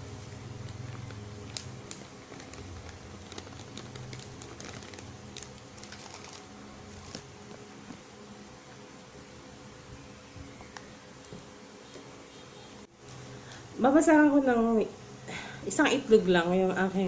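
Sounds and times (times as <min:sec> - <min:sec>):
low steady background hum: 0:00.0 - 0:17.0.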